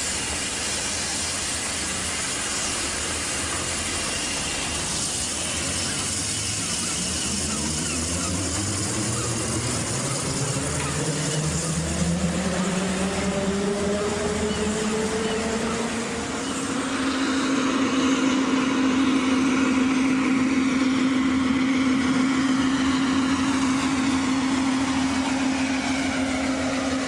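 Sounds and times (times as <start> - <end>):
road vehicle humming: 0.0 - 27.0.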